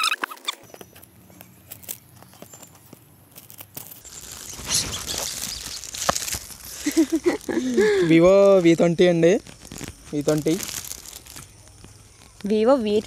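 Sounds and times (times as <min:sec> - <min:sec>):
wrapping paper crinkling and tearing: 0:01.6 - 0:13.0.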